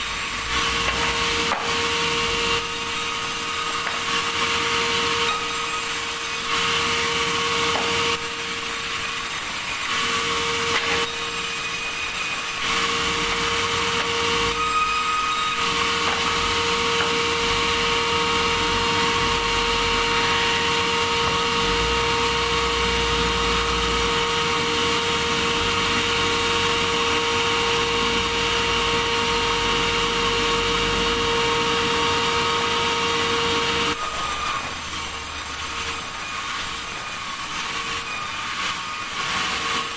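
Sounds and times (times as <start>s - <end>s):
sawmill blade cutting log: 0.0s - 39.9s.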